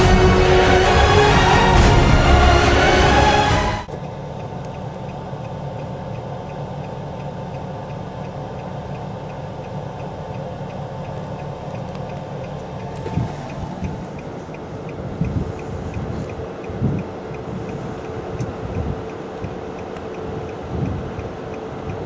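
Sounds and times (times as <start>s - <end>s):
engine humming: 0.0s - 22.0s
light even ticking: 3.9s - 22.0s.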